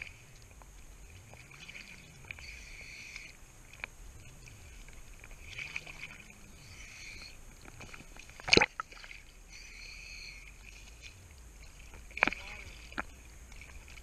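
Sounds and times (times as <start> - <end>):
river water lapping: 0.0 - 14.0
wave splashing: 0.0 - 14.0.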